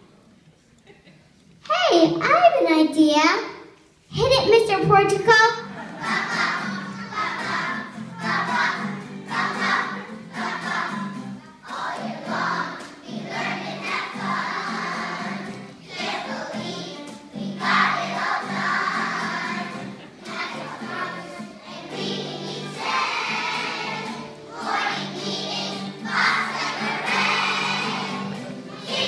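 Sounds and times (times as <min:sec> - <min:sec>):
children's choir singing: 0:05.6 - 0:29.0.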